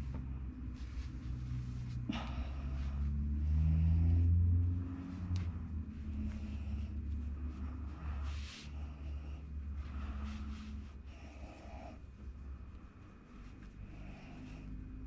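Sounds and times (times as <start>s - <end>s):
cotton t-shirt rustling: 0.0s - 3.5s, 4.6s - 15.0s
low rumble: 0.0s - 15.0s.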